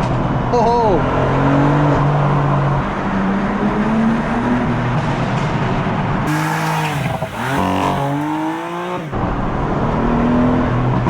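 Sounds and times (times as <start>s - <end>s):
car engine accelerating hard: 1.1s - 11.0s.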